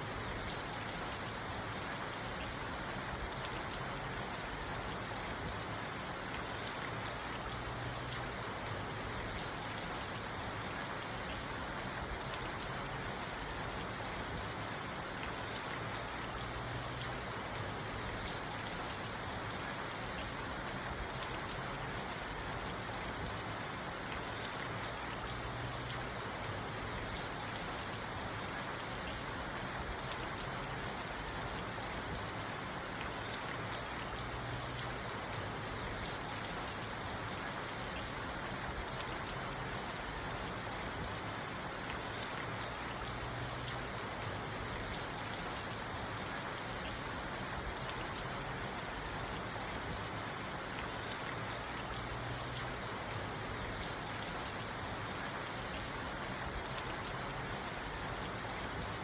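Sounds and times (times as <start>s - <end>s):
rain on a car: 0.0s - 59.0s.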